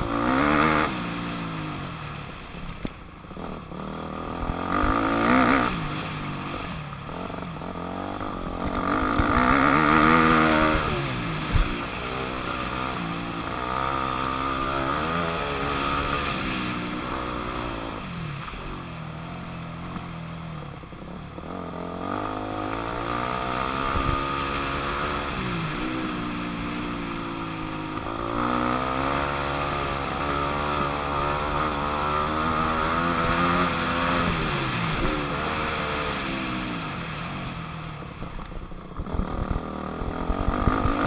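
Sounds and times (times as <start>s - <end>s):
dirt bike engine revving: 0.0s - 2.0s, 3.3s - 20.1s, 21.3s - 37.5s, 39.0s - 41.0s.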